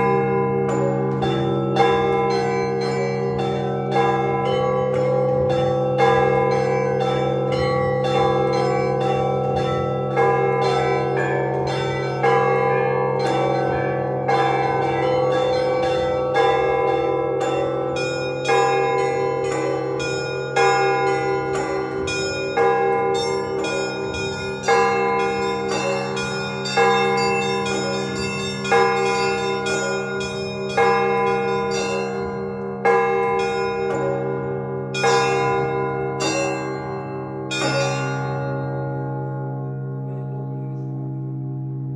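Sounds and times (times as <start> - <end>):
small bells rapid strikes: 0.0 - 34.3
big church bell strikes: 0.0 - 41.9.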